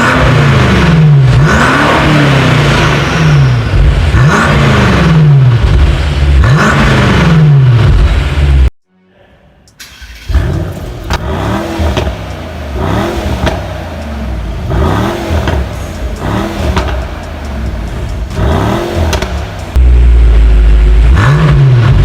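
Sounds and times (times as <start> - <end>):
engine revving: 0.0 - 8.7, 9.8 - 22.0
exhaust cracks: 0.0 - 8.7, 9.7 - 22.0.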